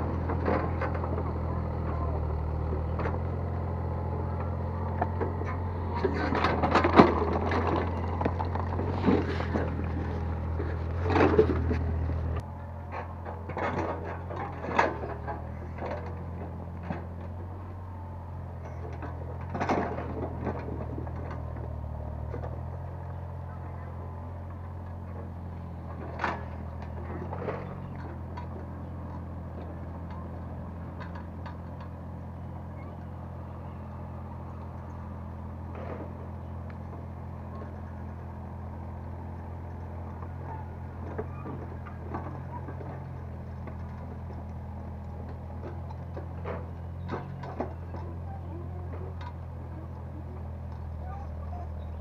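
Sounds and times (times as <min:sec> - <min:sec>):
excavator engine running: 0:00.0 - 0:52.0.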